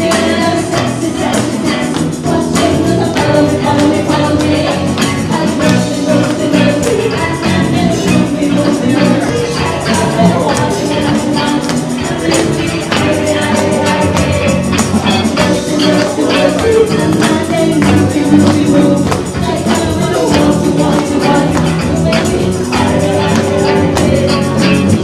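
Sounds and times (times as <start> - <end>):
live band with singer: 0.0 - 25.0.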